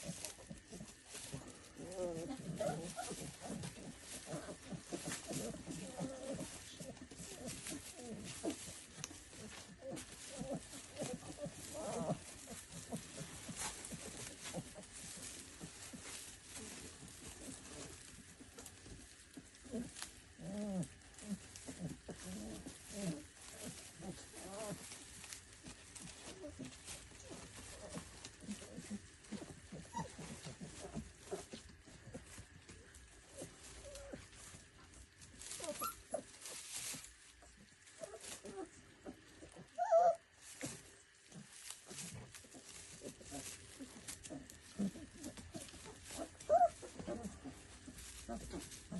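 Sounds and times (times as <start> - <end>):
puppies whimpering and grunting: 0.0 - 48.9
puppy whine: 0.0 - 48.9.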